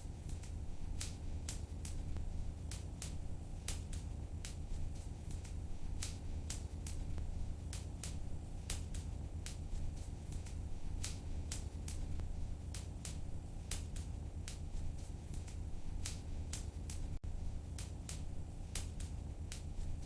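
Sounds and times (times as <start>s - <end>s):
low rumble of flames: 0.0s - 20.0s
fire pops and snaps: 0.1s - 20.0s.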